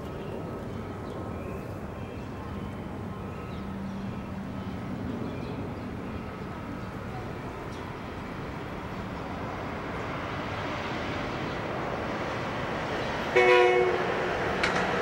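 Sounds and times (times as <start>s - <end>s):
city traffic noise: 0.0s - 15.0s
distant train rumble: 0.0s - 15.0s.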